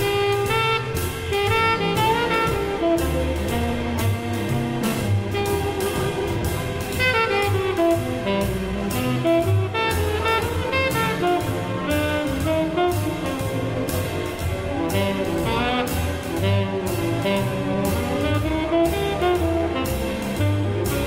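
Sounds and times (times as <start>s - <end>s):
instrumental music with steady beat: 0.0s - 21.0s.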